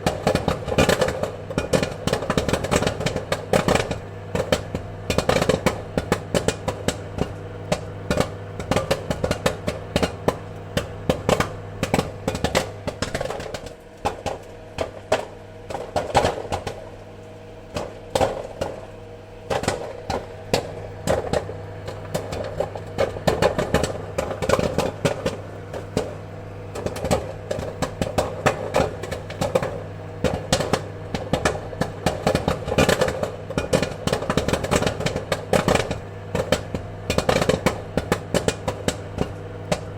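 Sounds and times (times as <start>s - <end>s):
popcorn popping: 0.0s - 39.9s
steady low hum: 0.0s - 39.9s.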